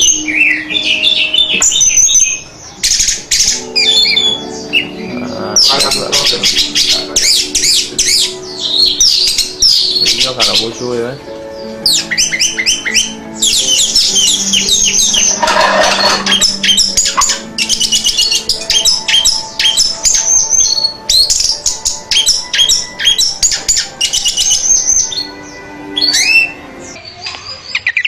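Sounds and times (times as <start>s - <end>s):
thrush singing whistled notes: 0.0s - 27.0s.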